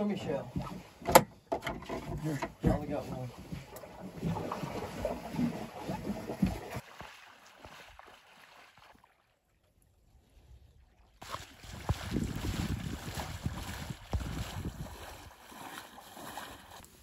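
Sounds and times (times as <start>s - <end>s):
wading through water splashing: 1.9s - 9.5s, 10.9s - 17.0s.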